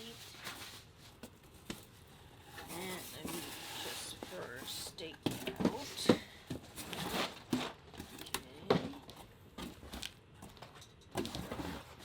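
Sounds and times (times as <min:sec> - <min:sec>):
packaging and bubble wrap crinkling: 0:00.0 - 0:12.0.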